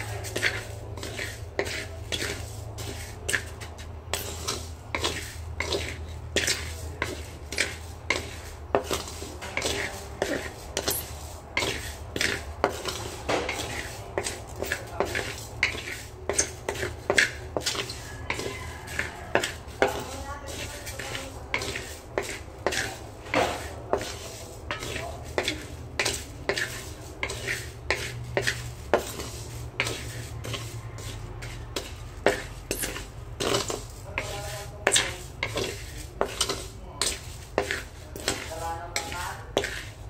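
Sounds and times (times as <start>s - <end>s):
spatula scraping rice in pan: 0.0s - 40.0s.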